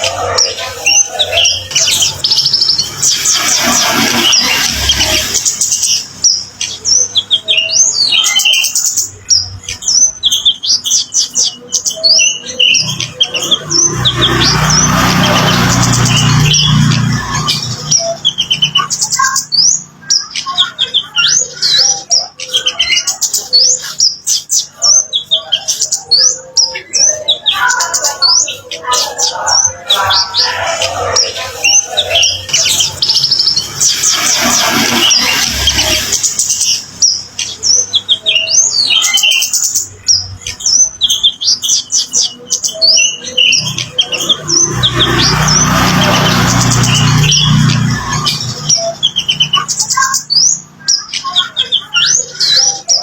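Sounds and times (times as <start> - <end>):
buzzy bird trill: 0.0 - 53.0.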